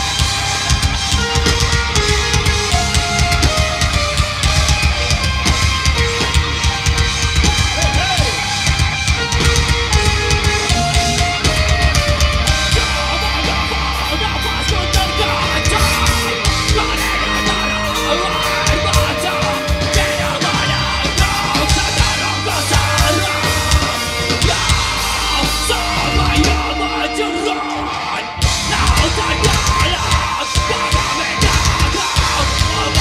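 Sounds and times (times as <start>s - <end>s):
bass guitar: 0.0s - 33.0s
distorted electric guitars: 0.0s - 33.0s
drum kit: 0.0s - 33.0s.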